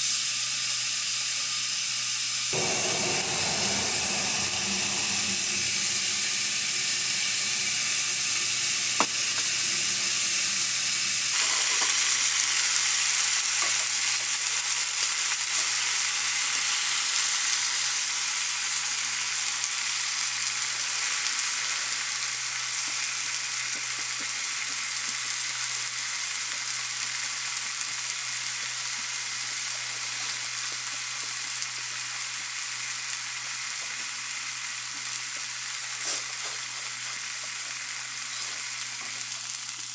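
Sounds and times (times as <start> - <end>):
food sizzling in a frying pan: 2.6 - 39.9.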